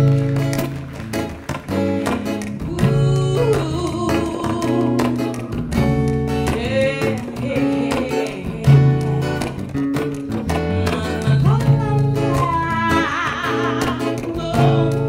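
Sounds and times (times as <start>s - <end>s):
acoustic guitar picked chords: 0.0s - 15.0s.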